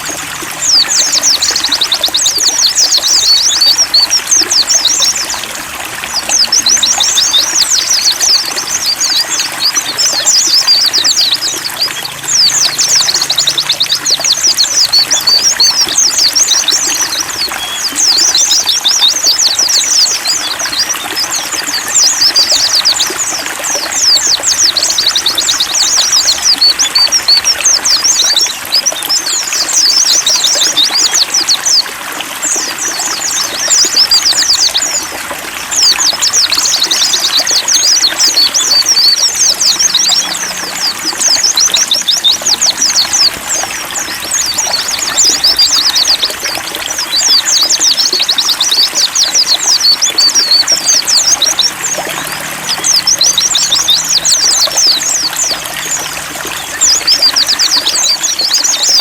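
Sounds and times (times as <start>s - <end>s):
birds twittering: 0.0s - 59.0s
trickling water: 0.0s - 59.0s.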